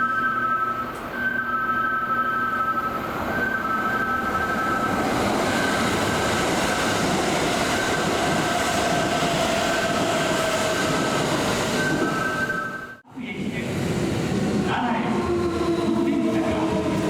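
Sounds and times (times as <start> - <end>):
train whine: 0.0 - 17.0
train wheels rumbling on rails: 2.6 - 17.0.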